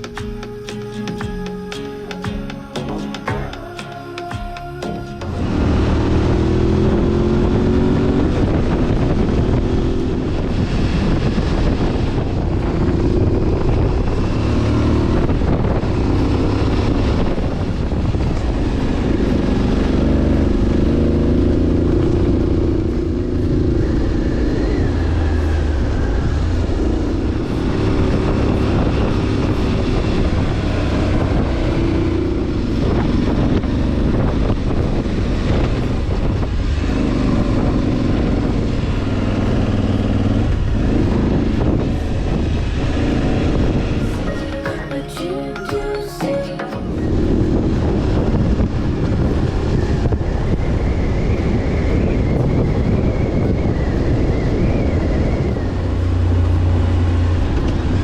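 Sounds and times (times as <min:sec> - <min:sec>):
motorcycle engine revving: 0:05.0 - 0:44.3, 0:47.0 - 0:58.0
wind rumble on microphone: 0:05.2 - 0:44.4, 0:46.8 - 0:58.0.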